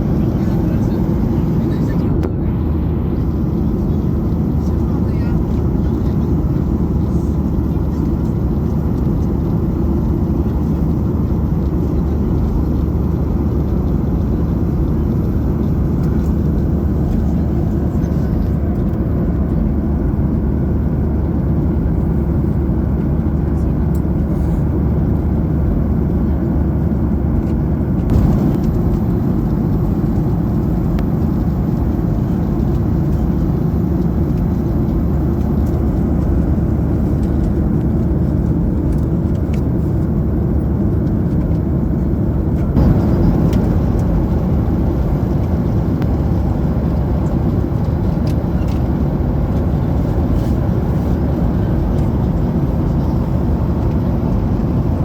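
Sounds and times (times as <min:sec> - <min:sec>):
airliner cabin jet engine noise: 0:00.0 - 0:55.0.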